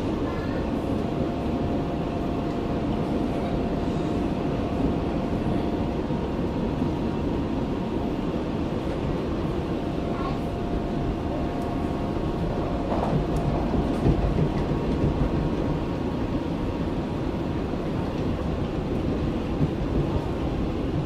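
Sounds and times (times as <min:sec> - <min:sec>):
train equipment hum and rush: 0:00.0 - 0:21.0.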